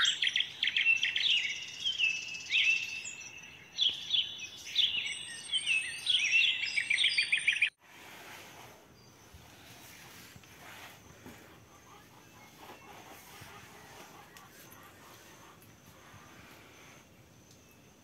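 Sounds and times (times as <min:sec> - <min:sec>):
birds chirping and trilling: 0:00.0 - 0:07.8, 0:08.4 - 0:18.0.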